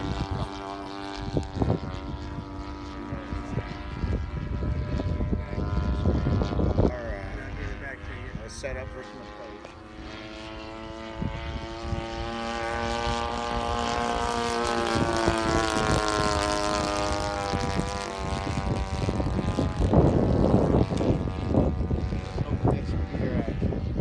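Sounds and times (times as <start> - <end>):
model airplane droning by: 0.0 - 24.0.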